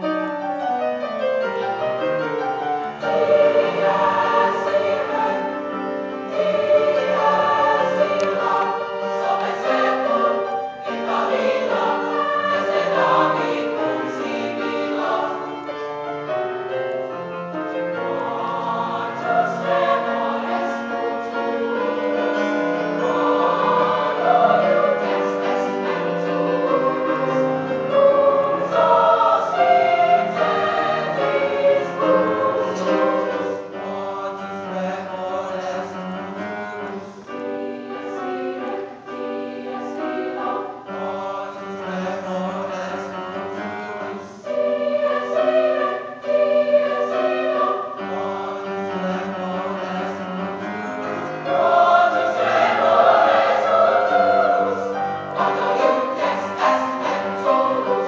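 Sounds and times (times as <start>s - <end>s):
children's choir singing: 1.8s - 58.0s.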